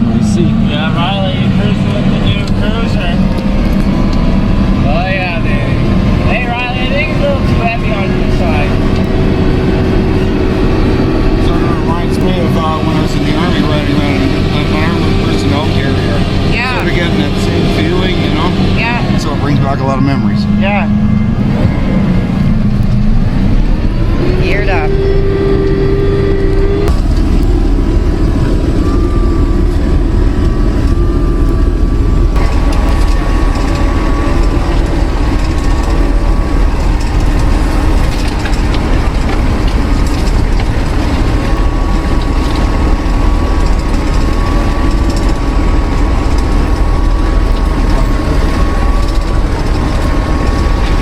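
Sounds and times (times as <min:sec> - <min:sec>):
vehicle engine drone: 0:00.0 - 0:51.0
thin wavering whine: 0:00.3 - 0:51.0.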